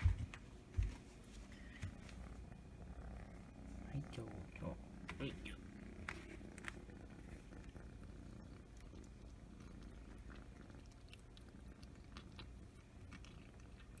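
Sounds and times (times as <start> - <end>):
kitten purring: 1.4 - 14.0.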